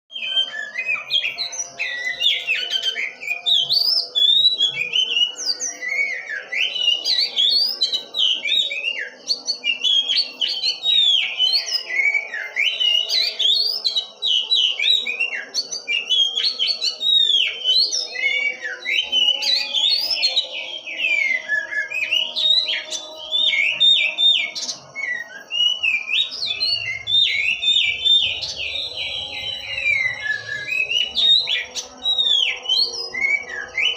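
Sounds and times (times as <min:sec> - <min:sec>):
songbird singing: 0:00.1 - 0:33.9.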